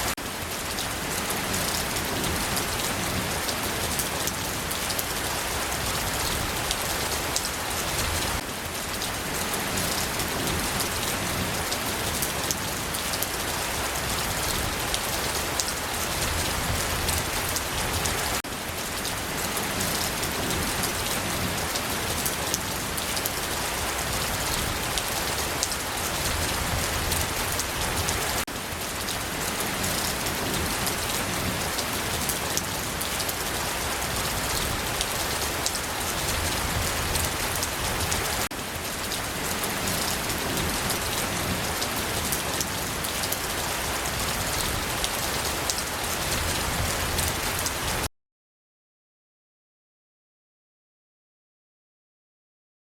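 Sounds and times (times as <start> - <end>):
rain falling on a surface: 0.0 - 48.1.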